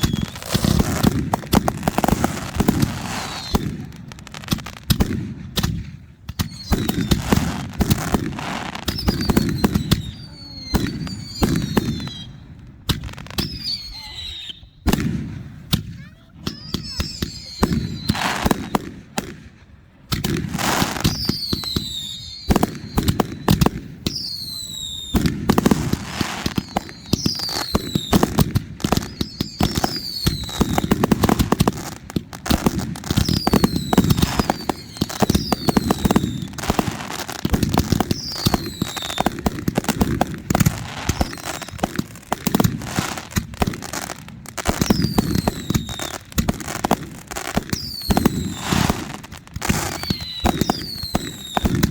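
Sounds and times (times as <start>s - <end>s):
fireworks whistles falling in pitch: 0.0s - 4.8s, 6.3s - 19.2s, 20.5s - 51.9s
fireworks popping and crackling: 0.0s - 51.9s.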